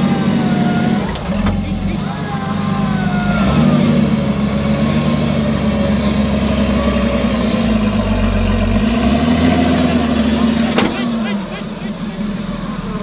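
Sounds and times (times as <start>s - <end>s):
off-road vehicle engine droning: 0.0s - 13.0s.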